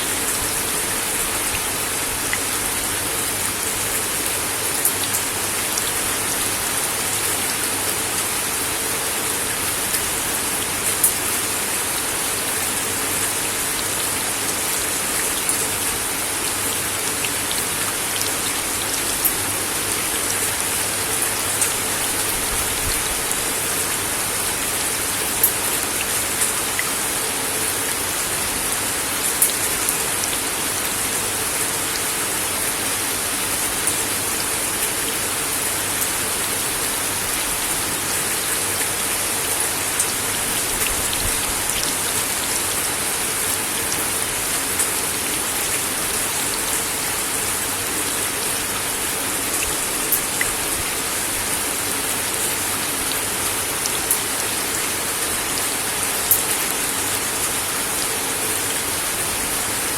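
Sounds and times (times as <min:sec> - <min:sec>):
rain falling on wooden deck: 0:00.0 - 0:59.9.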